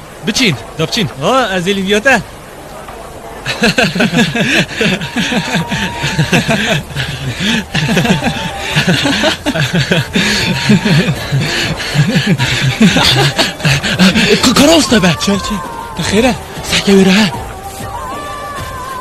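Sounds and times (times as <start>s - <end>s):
steady hiss: 0.0s - 19.0s
men laughing heartily: 3.4s - 19.0s.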